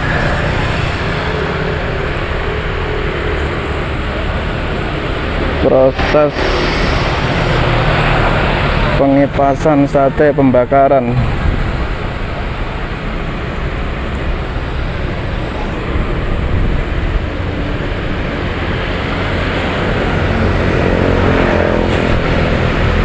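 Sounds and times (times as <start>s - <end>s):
engine hum: 0.0s - 23.0s
fan rushing air: 0.0s - 23.0s
street traffic rumble: 0.0s - 23.0s.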